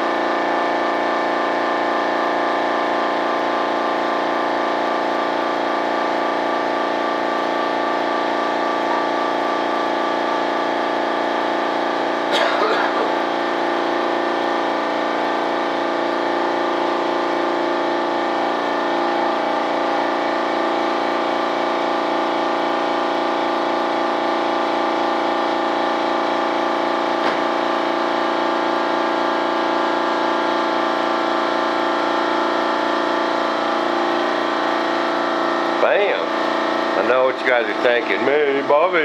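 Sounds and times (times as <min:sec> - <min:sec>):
motor humming steadily: 0:00.0 - 0:39.0.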